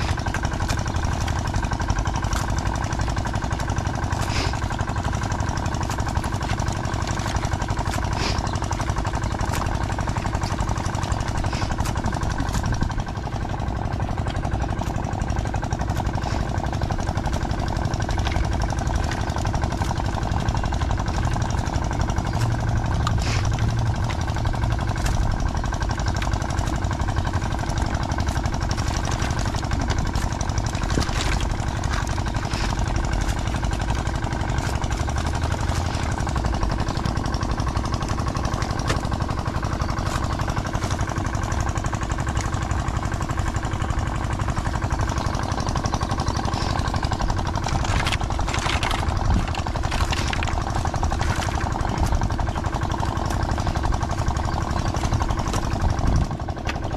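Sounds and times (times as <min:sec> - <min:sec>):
boat engine running: 0:00.0 - 0:56.9.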